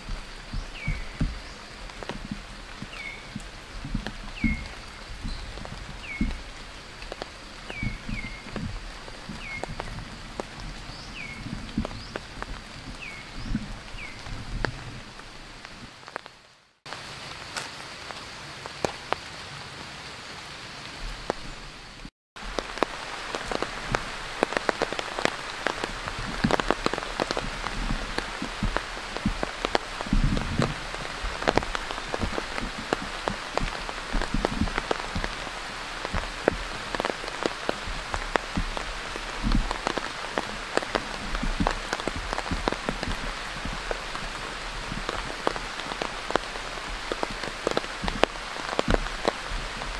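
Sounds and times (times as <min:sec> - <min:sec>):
raindrops clicking on surface: 0:00.0 - 0:49.9
steady rain: 0:00.0 - 0:49.9.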